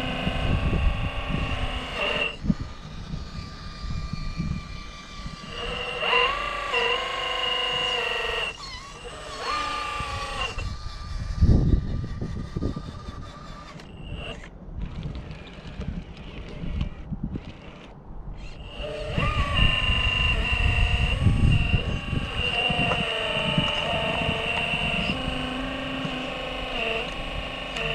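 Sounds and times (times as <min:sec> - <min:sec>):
electric motor and gears whining: 0:00.0 - 0:27.9
wind rumbling on microphone: 0:00.0 - 0:27.9.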